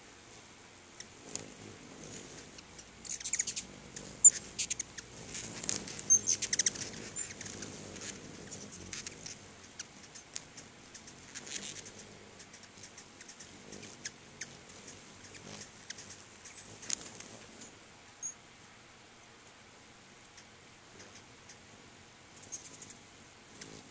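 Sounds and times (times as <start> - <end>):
hummingbirds chipping: 0.0 - 23.9.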